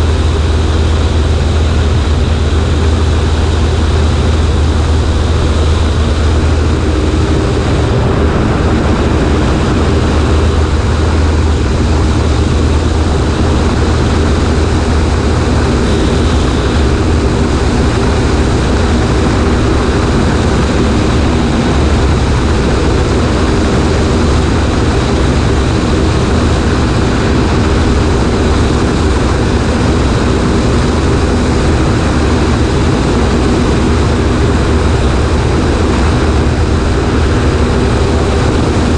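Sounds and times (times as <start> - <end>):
light aircraft engine and propeller: 0.0 - 38.9
wind noise on microphone: 0.0 - 38.9.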